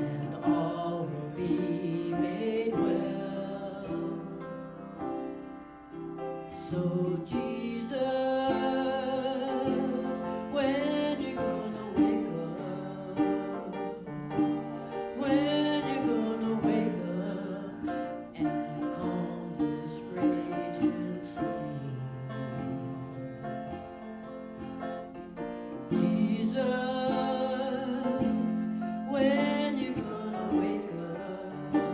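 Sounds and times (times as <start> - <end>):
instrumental accompaniment: 0.0 - 31.9
person singing with vibrato: 0.0 - 31.9.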